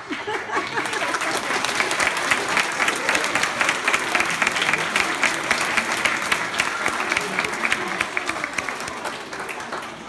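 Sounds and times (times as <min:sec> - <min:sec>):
children applauding: 0:00.0 - 0:10.0.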